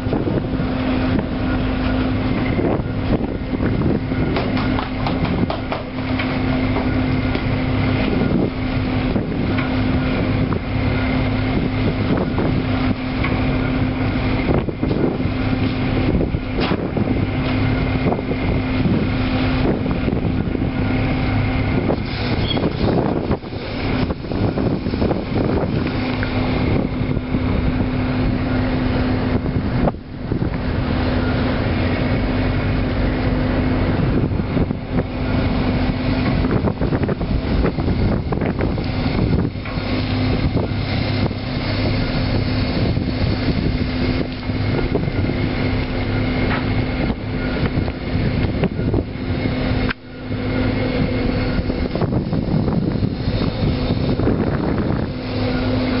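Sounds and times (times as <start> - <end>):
boat engine humming: 0.0 - 56.0
wind and water rushing: 0.0 - 56.0.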